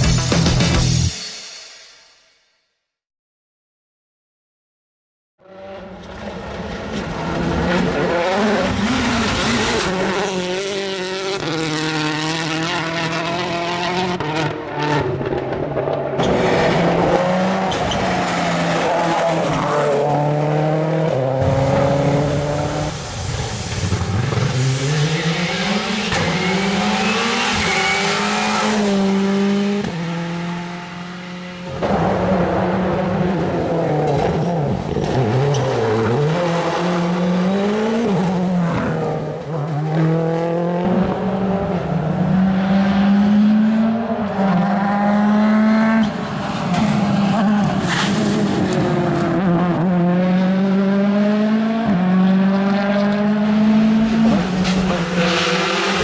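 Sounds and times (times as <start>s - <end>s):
rally car engines at full throttle: 5.4s - 56.0s.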